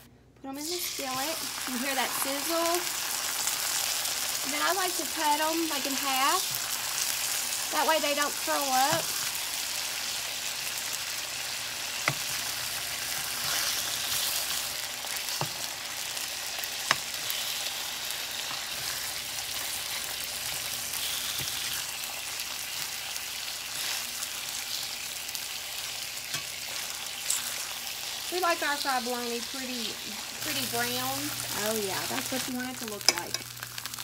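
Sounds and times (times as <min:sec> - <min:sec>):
meat sizzling in a skillet: 0:00.6 - 0:34.0.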